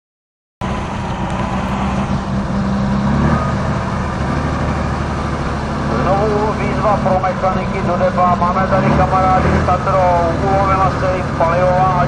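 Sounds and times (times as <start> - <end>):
heavy truck engine running: 0.6 - 12.0.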